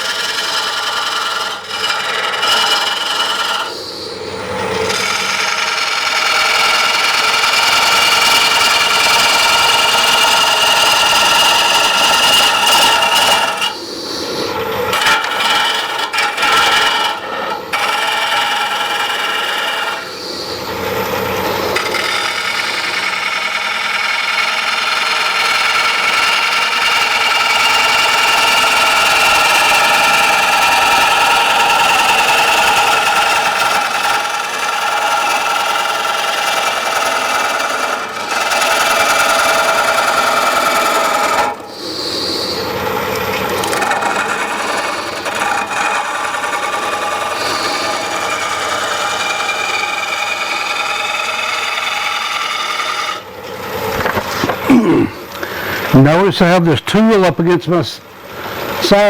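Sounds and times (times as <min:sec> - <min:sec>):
lathe tool cutting wood: 0:00.0 - 0:54.7.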